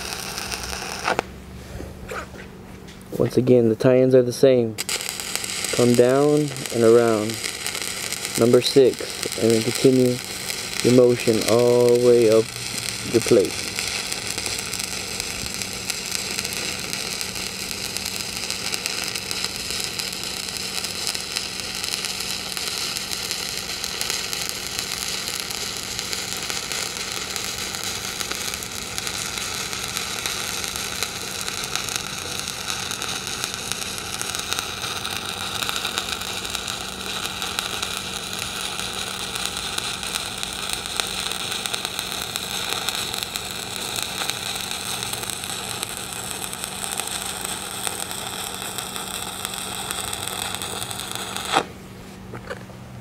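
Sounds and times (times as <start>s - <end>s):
welding arc crackling: 0.0s - 1.4s, 4.8s - 51.8s
steady low hum: 0.0s - 53.0s.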